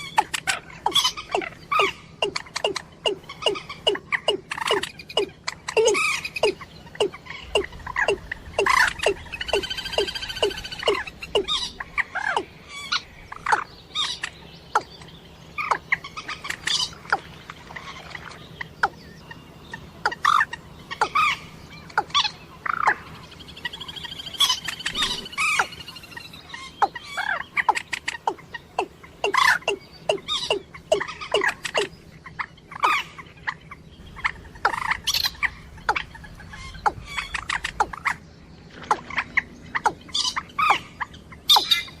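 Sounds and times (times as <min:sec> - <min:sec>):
drawn-out bird call: 0:00.0 - 0:42.0.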